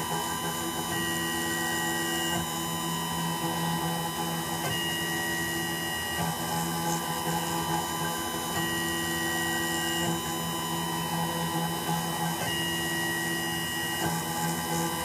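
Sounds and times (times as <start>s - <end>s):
milling machine spindle humming: 0.0s - 15.0s
stepper motor whine: 0.0s - 15.0s.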